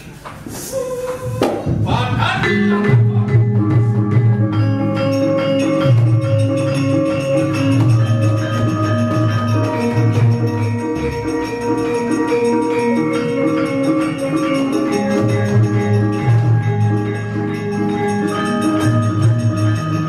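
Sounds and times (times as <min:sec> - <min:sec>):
gamelan playing: 0:02.4 - 0:20.0.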